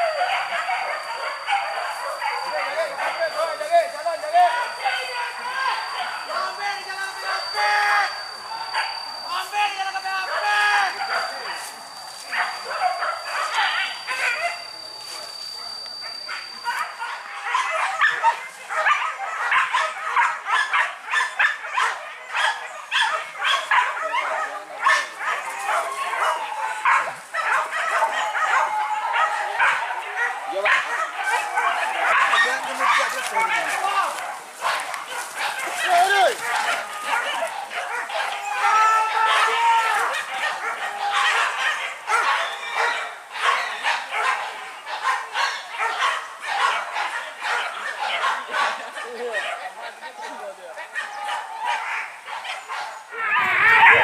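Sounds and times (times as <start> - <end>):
dogs barking and yelping: 0.0 - 54.0.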